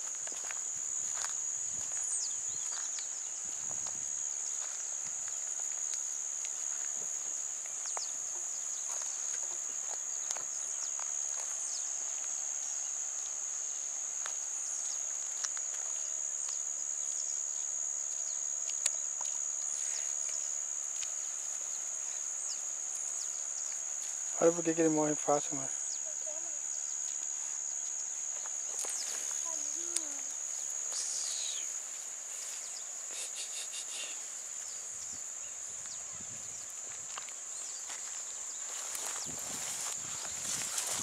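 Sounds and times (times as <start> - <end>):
high-pitched insect drone: 0.0 - 41.0
rustling grass and leaves: 0.0 - 41.0.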